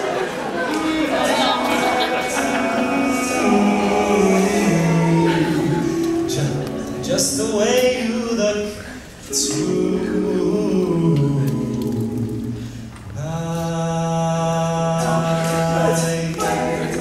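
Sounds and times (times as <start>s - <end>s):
male a cappella group singing: 0.9s - 17.0s.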